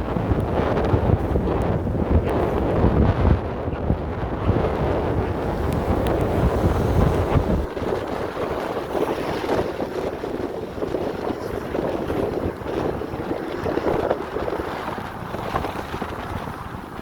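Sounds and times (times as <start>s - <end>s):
wind and rain rushing: 0.0s - 17.0s
wind buffeting microphone: 0.0s - 17.0s.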